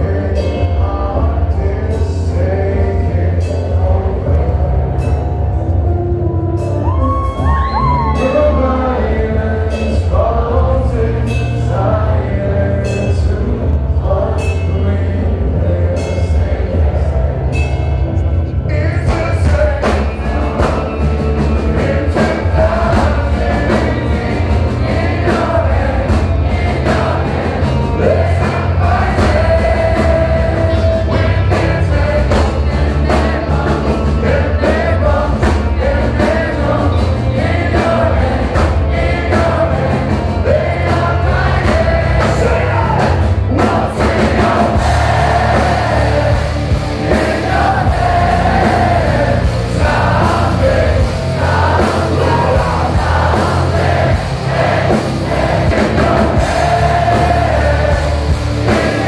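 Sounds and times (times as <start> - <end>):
person singing: 0.0 - 59.0
rock band playing live: 0.0 - 59.0.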